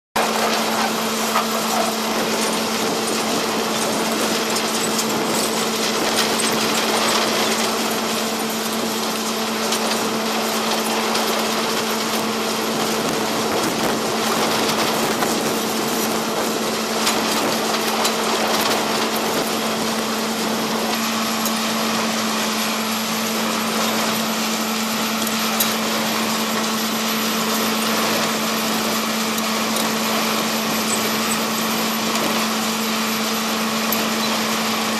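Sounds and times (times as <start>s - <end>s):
digging attachment noise: 0.2s - 34.9s
tractor engine hum: 0.2s - 34.9s.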